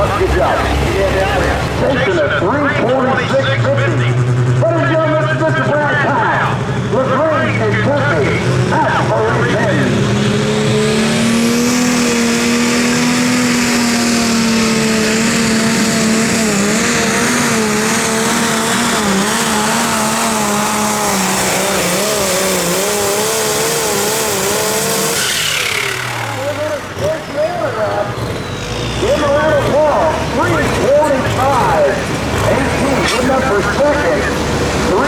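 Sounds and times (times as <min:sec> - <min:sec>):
tractor diesel engine at full throttle: 0:00.0 - 0:35.0.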